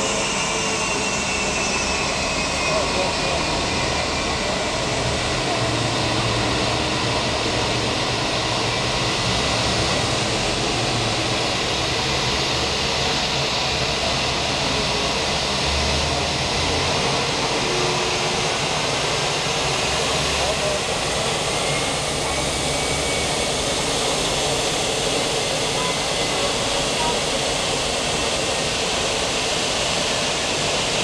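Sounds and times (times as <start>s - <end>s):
jet engines whining: 0.0s - 31.0s.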